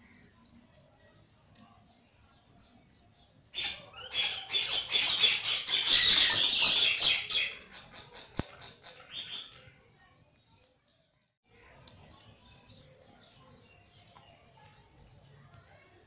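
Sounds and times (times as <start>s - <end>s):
birds chattering: 0.0s - 10.7s, 11.6s - 15.8s.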